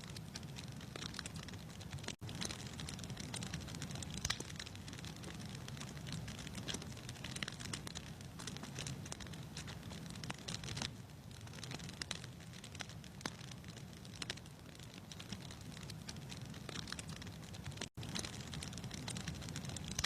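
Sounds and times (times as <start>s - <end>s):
low rumble of fire: 0.0s - 20.0s
wood fire crackling: 0.0s - 20.0s.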